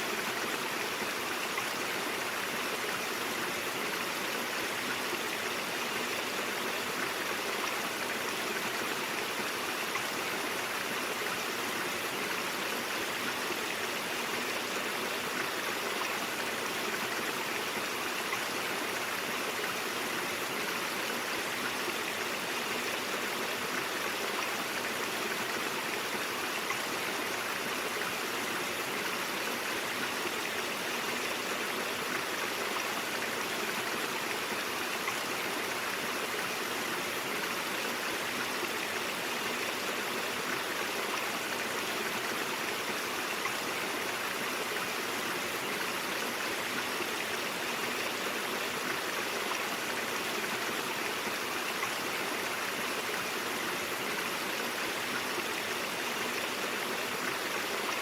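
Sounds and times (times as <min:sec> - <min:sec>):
stream water babbling over rocks: 0:00.0 - 0:58.0.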